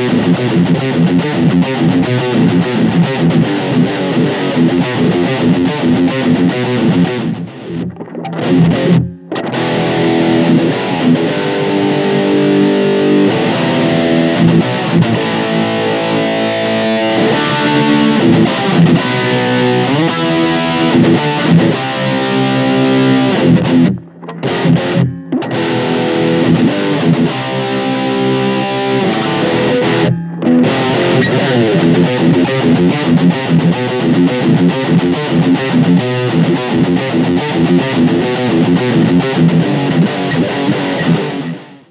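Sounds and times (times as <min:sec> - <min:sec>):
distorted electric guitar riffs: 0:00.0 - 0:41.9.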